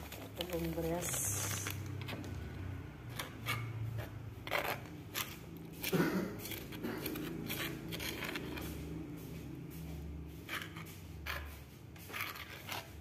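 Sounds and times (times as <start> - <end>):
metal spoon scraping batter: 0.0 - 9.0, 10.4 - 13.0.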